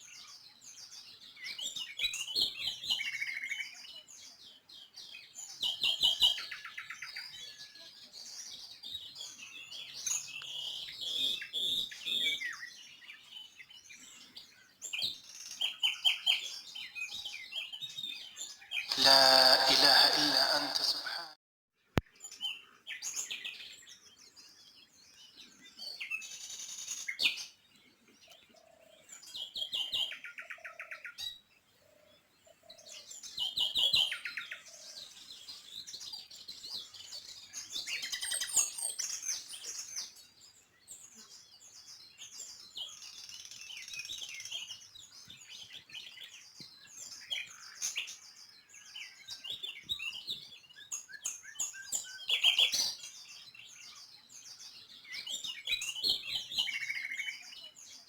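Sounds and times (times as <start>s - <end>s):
small birds chirping: 0.0s - 20.8s, 21.9s - 58.0s.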